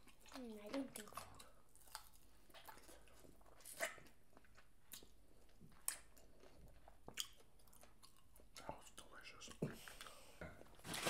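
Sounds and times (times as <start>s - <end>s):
chewing crisp food: 0.0s - 10.2s.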